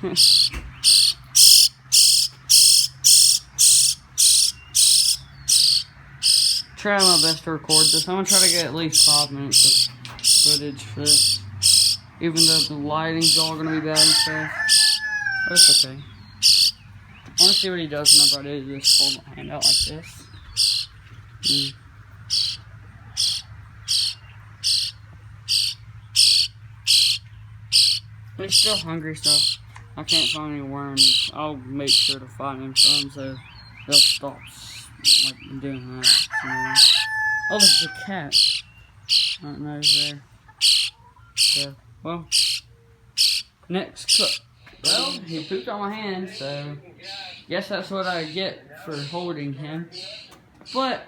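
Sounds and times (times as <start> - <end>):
baby bird begging calls: 0.0 - 49.3, 50.0 - 51.0.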